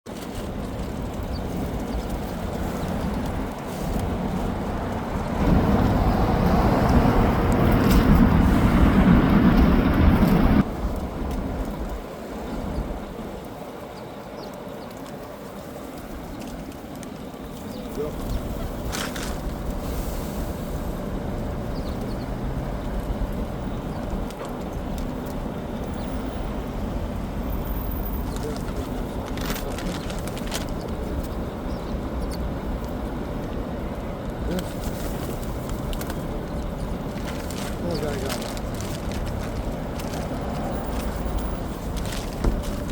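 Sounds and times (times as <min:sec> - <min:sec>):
street traffic rumble: 0:00.0 - 0:42.9.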